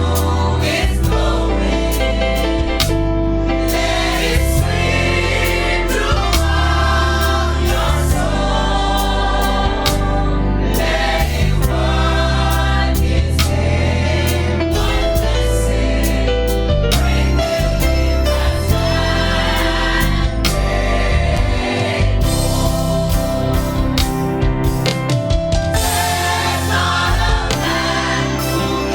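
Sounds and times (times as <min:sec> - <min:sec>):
group singing gospel song: 0:00.0 - 0:28.9
instrumental backing: 0:00.0 - 0:28.9.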